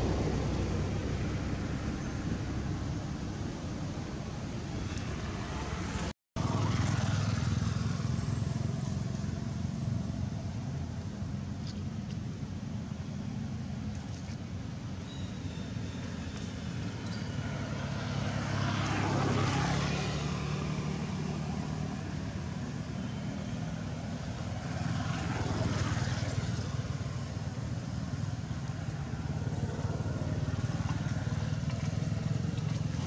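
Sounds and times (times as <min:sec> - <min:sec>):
vehicle engines droning: 0:00.0 - 0:33.0
vehicles passing: 0:00.0 - 0:33.0.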